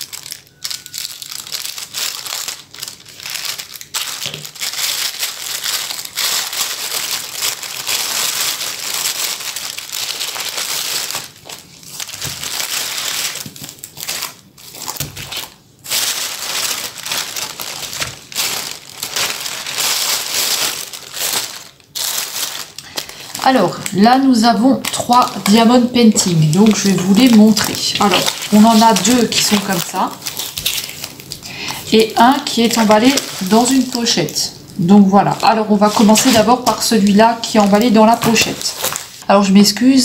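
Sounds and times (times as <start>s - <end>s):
plastic packaging crinkling: 0.0s - 40.0s.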